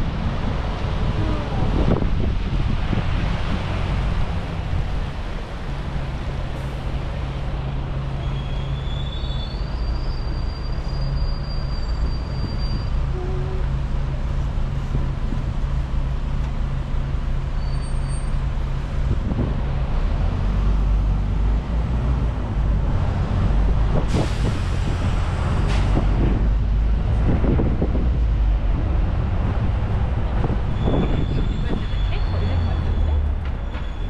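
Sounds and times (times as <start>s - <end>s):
bus engine running: 0.0s - 34.0s
road and traffic noise: 0.0s - 34.0s.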